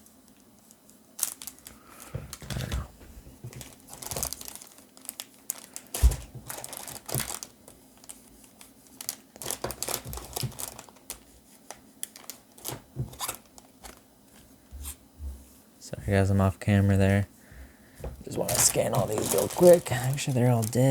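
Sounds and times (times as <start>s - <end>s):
foil wrappers crinkling: 0.3s - 14.4s, 18.0s - 20.9s.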